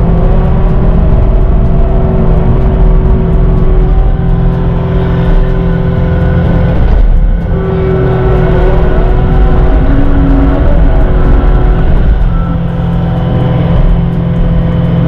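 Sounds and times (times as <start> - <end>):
diesel engine drone: 0.0 - 15.0
steady whine: 0.0 - 15.0.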